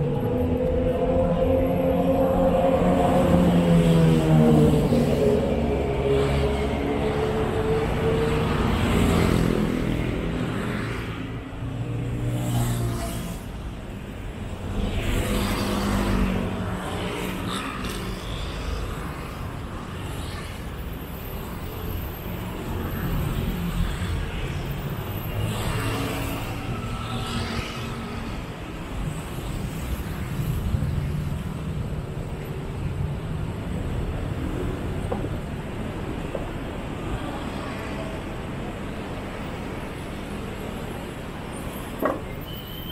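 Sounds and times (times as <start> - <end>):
traffic rumble: 0.0 - 42.9
vehicles passing close by: 0.0 - 42.9.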